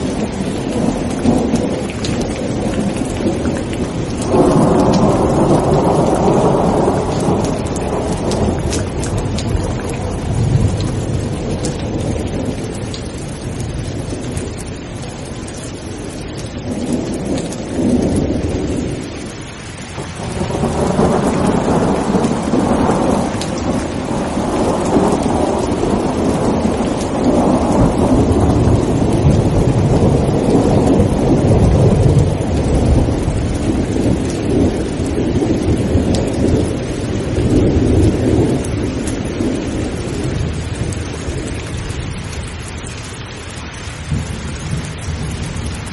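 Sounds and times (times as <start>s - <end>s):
rolling thunder: 0.0s - 42.5s, 44.0s - 45.9s
heavy rain: 0.0s - 45.9s.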